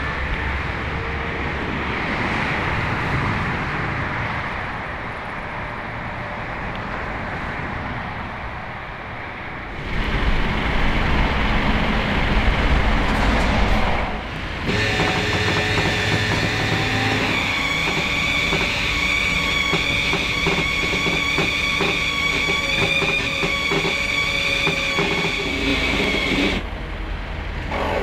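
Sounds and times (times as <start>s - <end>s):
motorway traffic rush: 0.0s - 28.0s.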